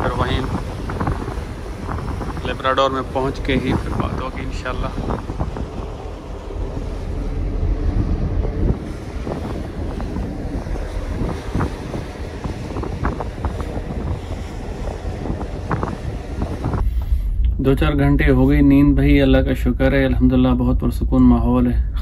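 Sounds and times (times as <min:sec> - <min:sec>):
water churning along hull: 0:00.0 - 0:22.0
wind buffeting microphone: 0:00.0 - 0:22.0.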